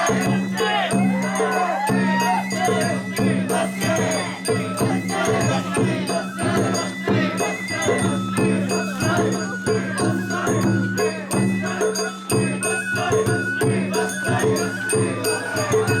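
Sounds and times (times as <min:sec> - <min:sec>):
drums in steady rhythm: 0:00.0 - 0:16.0
high flute melody: 0:00.0 - 0:16.0
rattling percussive jingle: 0:00.0 - 0:16.0.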